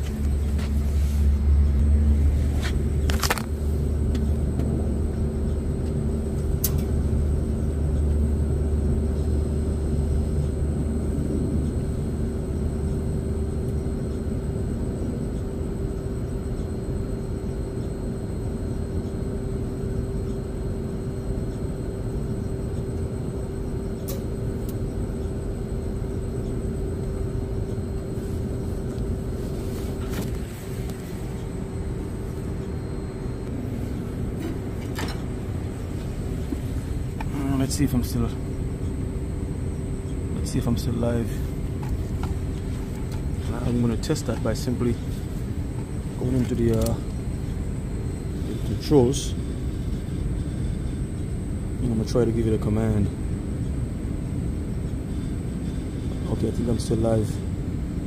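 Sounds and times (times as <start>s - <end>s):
outdoor air conditioning unit humming: 0.0s - 58.0s.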